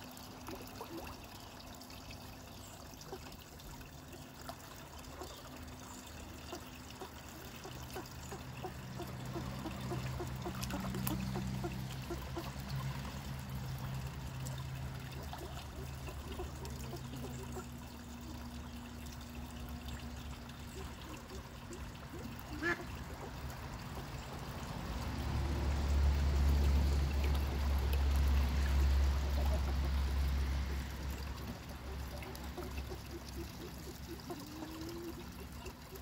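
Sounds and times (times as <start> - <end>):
water trickling and lapping: 0.0 - 36.0
ducks splashing: 2.8 - 36.0.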